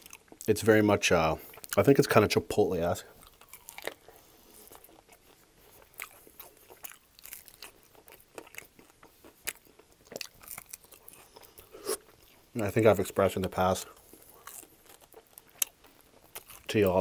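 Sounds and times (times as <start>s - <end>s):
chewing crispy chicken wing: 0.0s - 17.0s.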